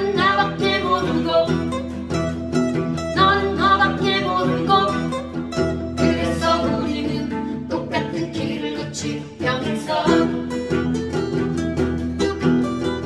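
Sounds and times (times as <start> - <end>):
guitar playing slow melody: 0.0 - 13.0.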